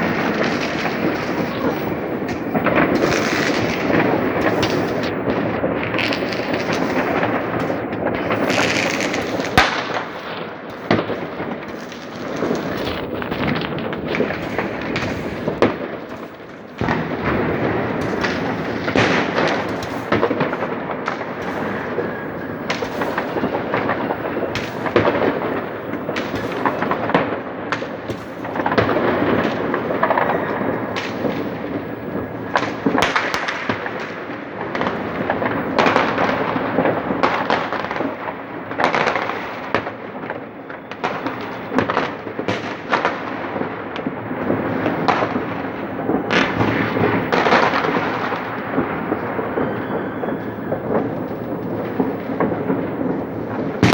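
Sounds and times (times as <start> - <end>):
fireworks crackling and popping: 0.0 - 53.9
loud firework bursts: 0.0 - 53.9.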